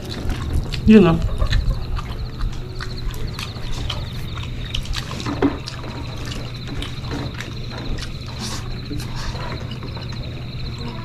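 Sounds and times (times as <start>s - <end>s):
mouth smacks: 0.0s - 9.8s
chewing crispy food: 0.0s - 11.0s
low hum: 0.0s - 11.0s.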